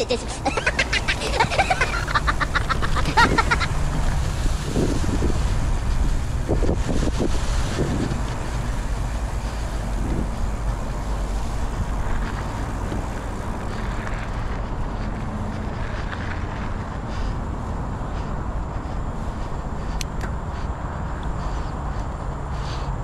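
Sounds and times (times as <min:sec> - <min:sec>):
bike tyres rolling on ground: 0:00.0 - 0:23.0
wind on microphone: 0:00.0 - 0:23.0.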